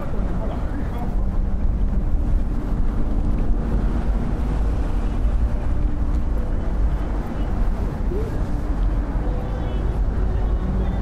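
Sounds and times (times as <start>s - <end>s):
city traffic rumble: 0.0s - 11.0s
faint engine hum: 0.0s - 11.0s
wind on microphone: 0.0s - 11.0s.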